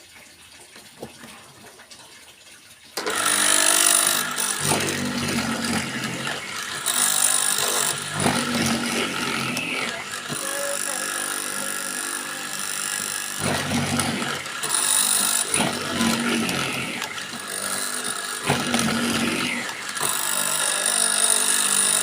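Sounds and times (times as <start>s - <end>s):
machine motor hum and whine: 3.0s - 22.0s.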